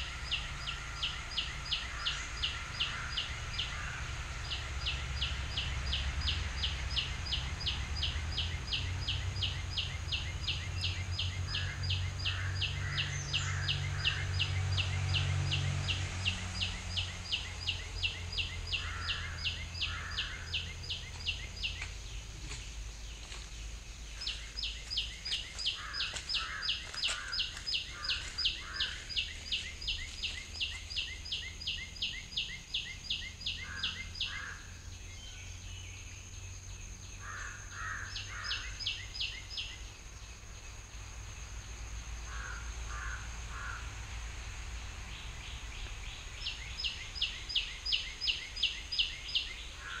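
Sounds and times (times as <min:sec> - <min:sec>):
bird chirps: 0:00.0 - 0:41.1, 0:45.0 - 0:50.0.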